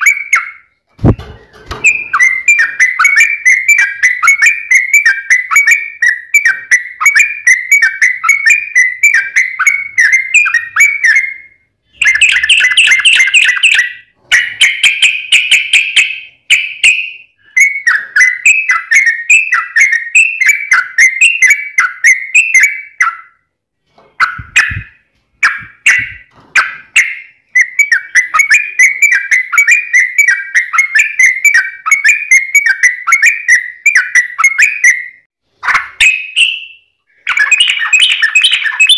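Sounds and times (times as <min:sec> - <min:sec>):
bird chattering song: 0:00.0 - 0:23.4, 0:24.2 - 0:38.9.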